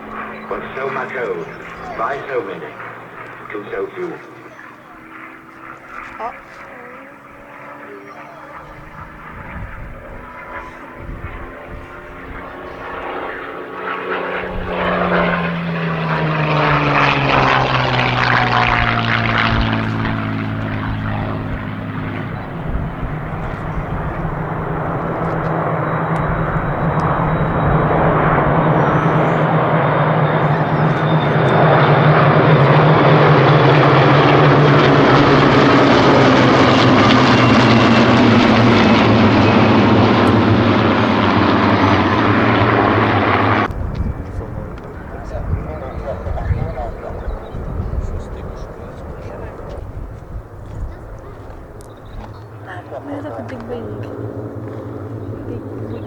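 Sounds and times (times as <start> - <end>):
propeller aircraft engines droning: 0.0 - 56.0.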